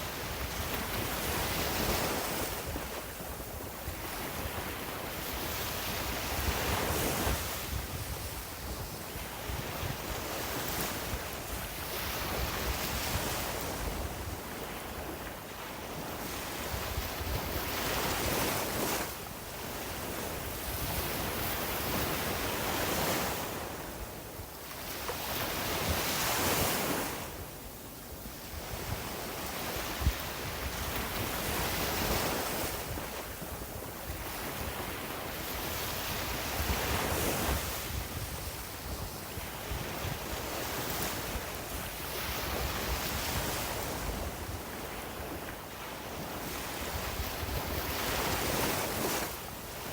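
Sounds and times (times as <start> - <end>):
wind rumbling on microphone: 0.0 - 27.6, 28.2 - 49.9.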